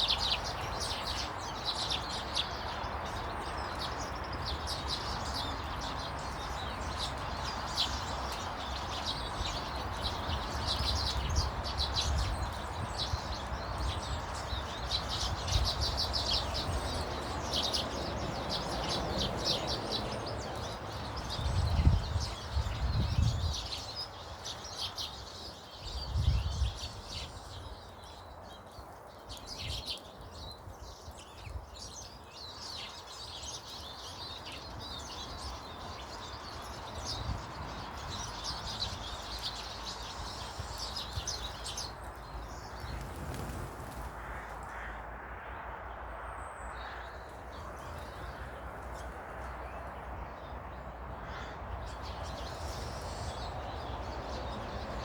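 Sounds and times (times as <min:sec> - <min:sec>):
small birds chirping: 0:00.0 - 0:45.1, 0:46.2 - 0:55.0.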